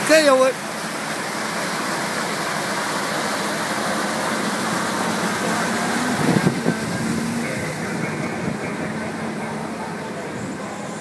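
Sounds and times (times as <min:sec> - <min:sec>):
rushing machine noise: 0:00.6 - 0:11.0.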